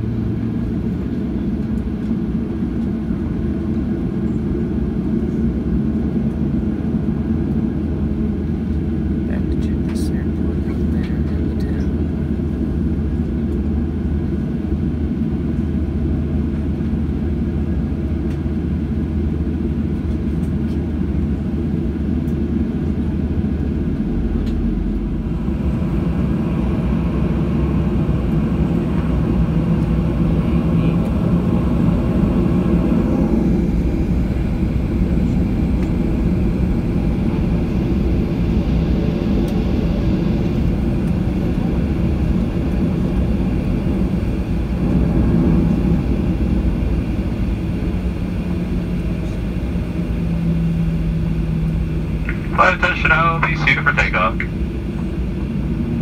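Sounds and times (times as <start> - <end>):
jet engines heard from cabin: 0.0 - 56.0.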